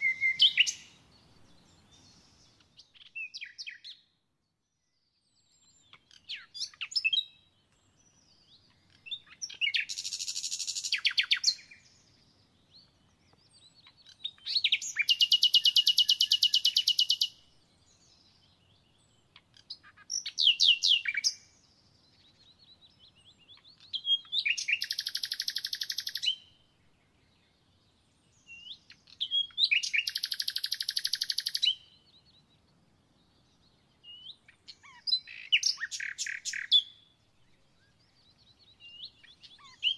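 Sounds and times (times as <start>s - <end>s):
songbird singing with trills: 0.0s - 39.9s.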